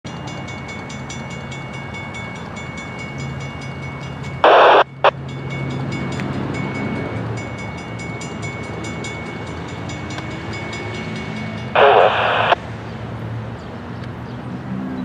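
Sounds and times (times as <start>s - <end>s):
diesel locomotive hum: 0.1s - 14.7s.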